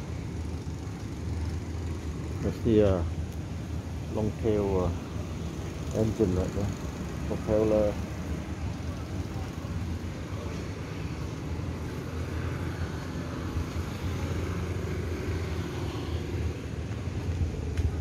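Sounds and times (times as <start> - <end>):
cars and motorbikes passing: 0.0 - 18.0.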